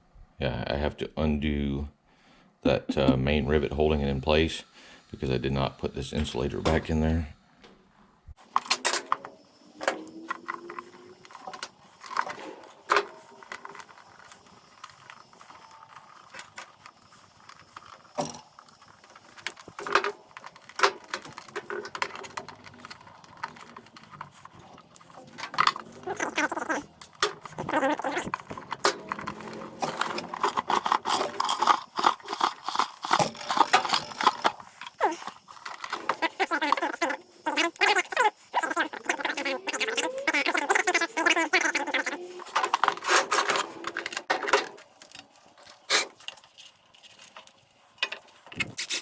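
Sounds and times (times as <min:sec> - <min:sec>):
hand tools clicking and rattling: 0:08.4 - 0:49.0
small metal parts rattling: 0:08.4 - 0:49.0.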